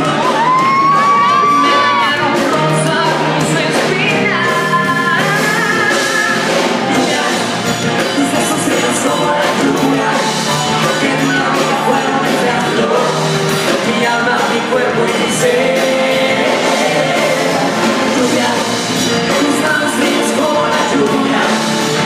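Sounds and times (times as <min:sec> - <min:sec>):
amplified backing music: 0:00.0 - 0:22.0
men singing into microphones: 0:00.0 - 0:22.0.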